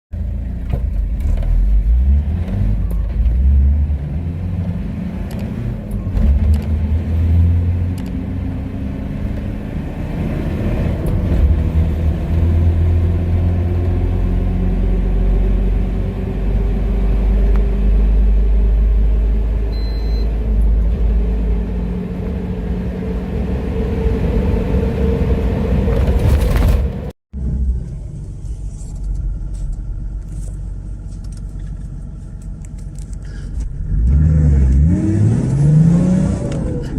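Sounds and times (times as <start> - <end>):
engine accelerating hard: 1.2 - 28.8, 32.6 - 36.9.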